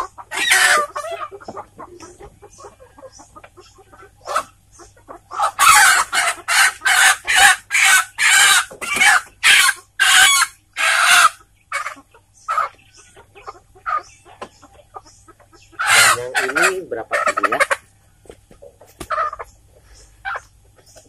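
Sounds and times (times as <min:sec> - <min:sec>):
chicken squawking: 0:00.0 - 0:17.9, 0:19.0 - 0:20.9.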